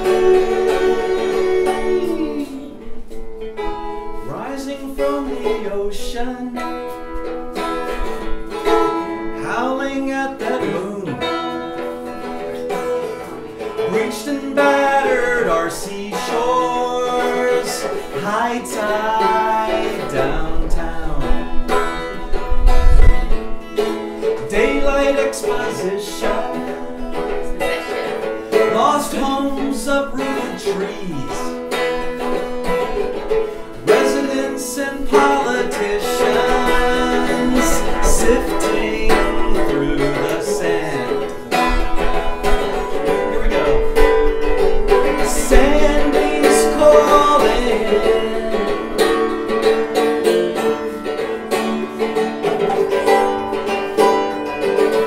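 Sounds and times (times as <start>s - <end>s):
man singing: 0.0s - 3.2s, 4.1s - 22.5s, 23.8s - 54.9s
lute strummed: 0.0s - 55.0s.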